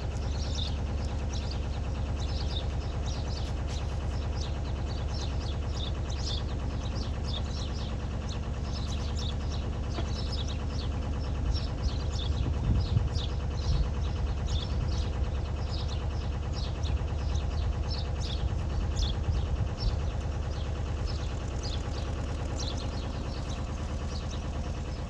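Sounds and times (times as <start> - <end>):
diesel engine idling: 0.0 - 25.0
small birds chirping: 0.0 - 25.0.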